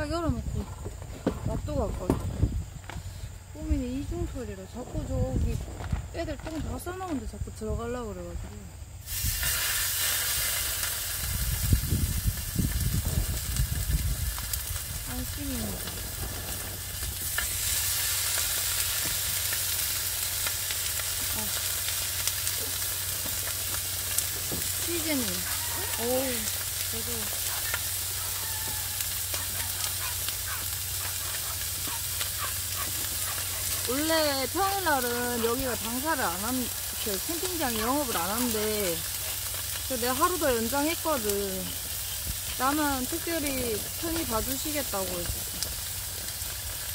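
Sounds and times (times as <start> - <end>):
crackles and pops: 0.0 - 46.9
meat sizzling on grill pan: 9.0 - 46.9.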